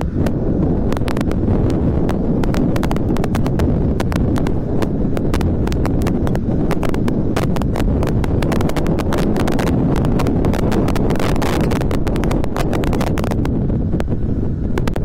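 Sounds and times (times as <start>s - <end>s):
motorcycle rattling over stones: 0.0s - 14.0s
motorcycle engine rumble: 0.0s - 15.0s.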